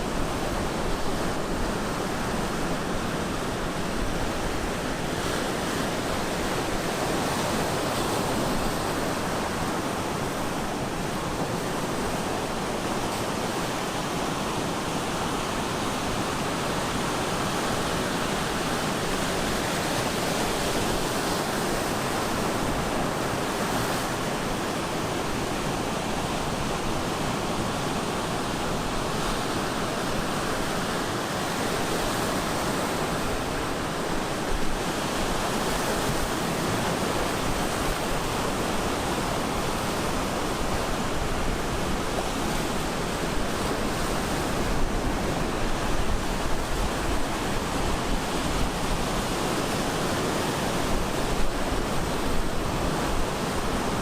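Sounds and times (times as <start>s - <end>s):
ocean surf roaring: 0.0s - 54.0s.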